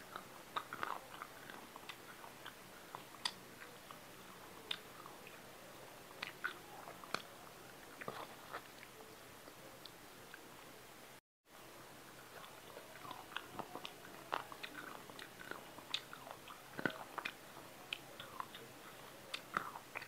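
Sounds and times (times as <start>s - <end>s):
person chewing with wet smacks: 0.0s - 10.4s, 12.1s - 20.0s.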